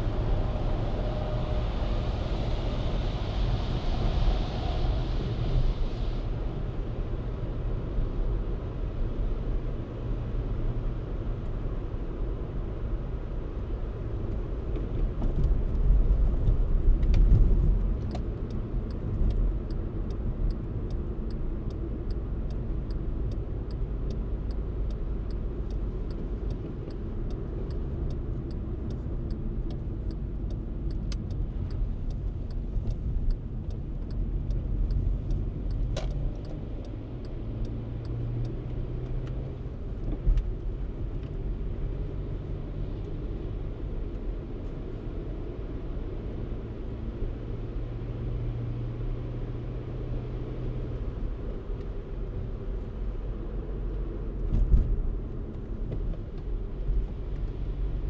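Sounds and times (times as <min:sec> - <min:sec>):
car driving: 0:00.0 - 0:58.0.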